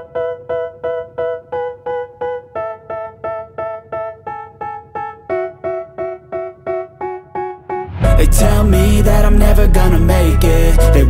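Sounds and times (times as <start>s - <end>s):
piano-like keyboard notes: 0.0s - 11.0s.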